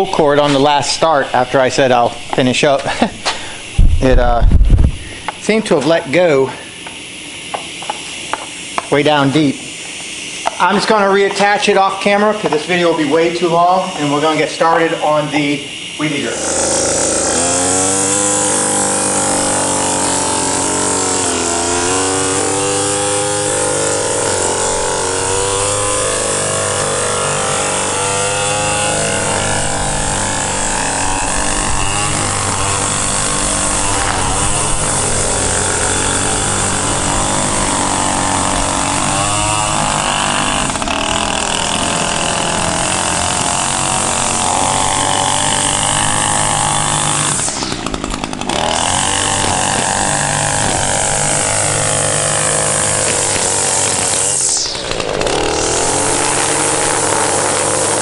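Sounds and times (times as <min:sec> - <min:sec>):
string trimmer engine revving: 0:00.0 - 0:07.2, 0:10.4 - 0:58.0.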